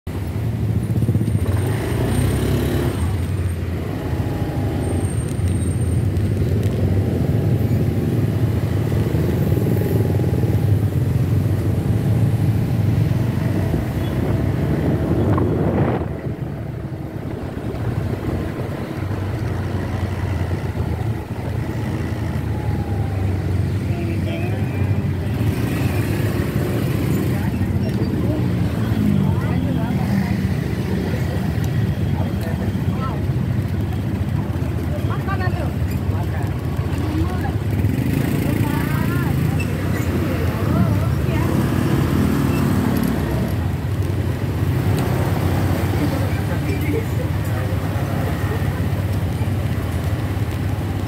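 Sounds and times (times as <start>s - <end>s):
motorcycle engine rumbling: 0.2s - 51.0s.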